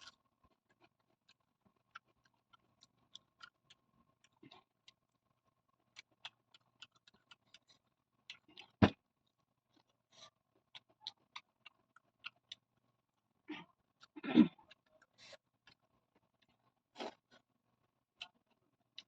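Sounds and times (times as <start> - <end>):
chewing sticky rice: 0.0 - 19.0.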